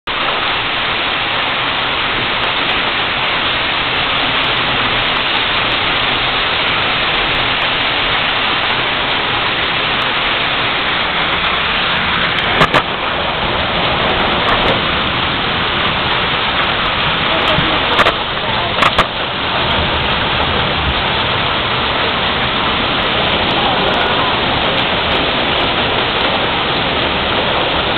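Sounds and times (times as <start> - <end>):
hail clattering: 0.1 - 27.9.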